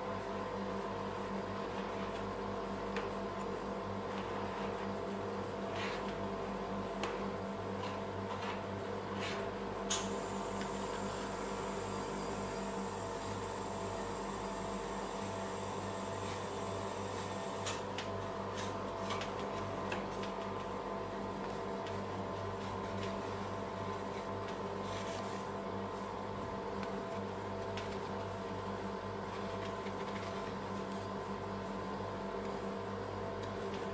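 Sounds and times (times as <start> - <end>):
machine electric hum: 0.0 - 33.9.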